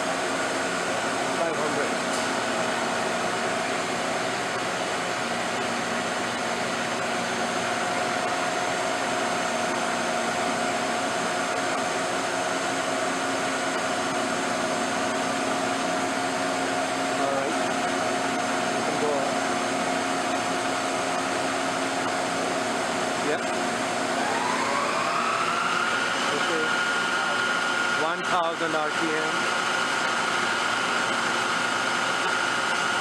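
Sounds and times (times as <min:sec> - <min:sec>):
boring mill spindle whirring: 0:00.0 - 0:33.0.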